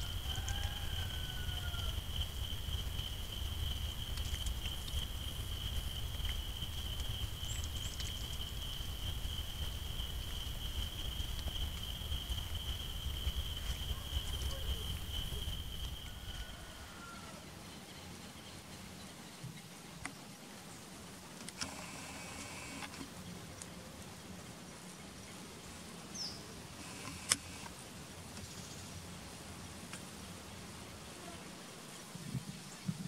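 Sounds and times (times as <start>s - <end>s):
low rumbling hiss: 0.0s - 33.0s.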